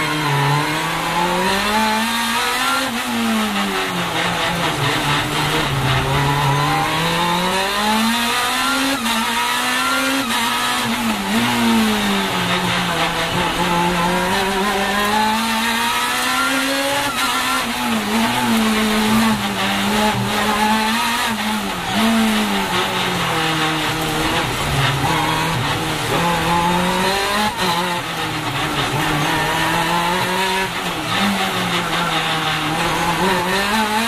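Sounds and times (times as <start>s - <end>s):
race car engine from cockpit: 0.0s - 34.0s.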